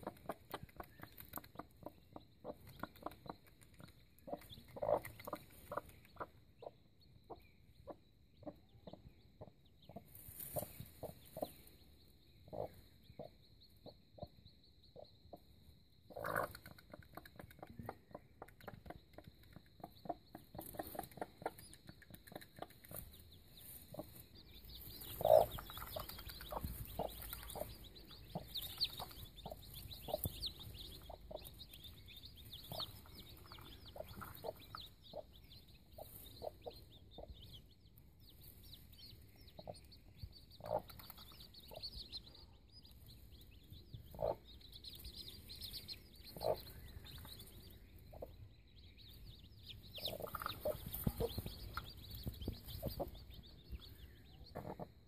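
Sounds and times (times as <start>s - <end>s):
hen clucking: 0.0s - 11.5s, 12.5s - 14.3s, 16.1s - 37.6s, 40.5s - 42.2s, 44.0s - 47.5s, 48.1s - 48.4s, 49.7s - 55.0s
chicks peeping: 0.0s - 55.0s.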